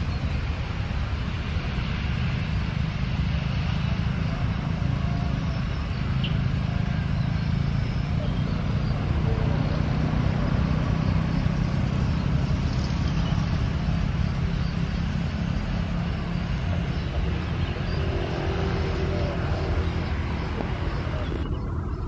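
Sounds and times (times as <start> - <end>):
vehicle engines idling and passing: 0.0 - 22.0.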